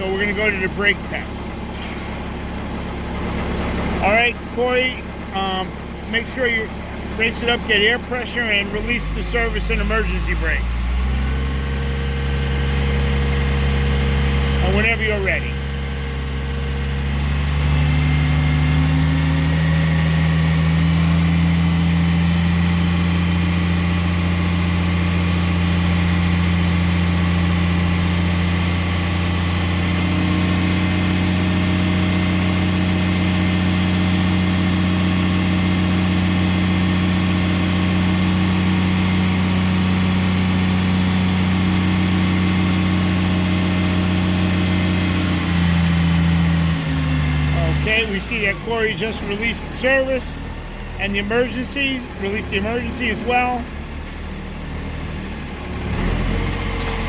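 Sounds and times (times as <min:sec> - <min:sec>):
truck engine running at raised revs: 0:00.0 - 0:57.0.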